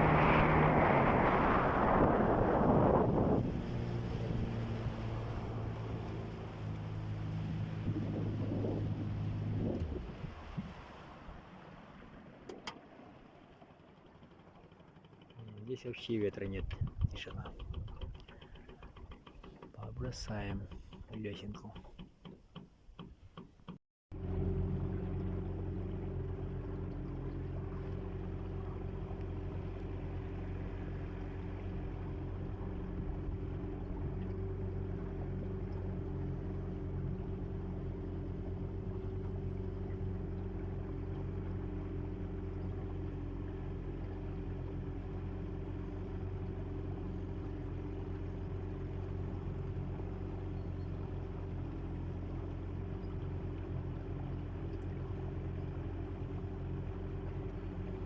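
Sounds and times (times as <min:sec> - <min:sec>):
boat motor droning: 0:00.0 - 0:58.0.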